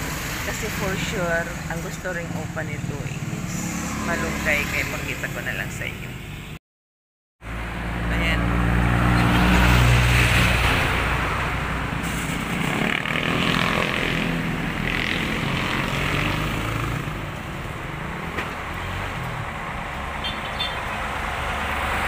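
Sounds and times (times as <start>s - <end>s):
vehicles passing on road: 0.0s - 6.6s, 7.4s - 22.0s.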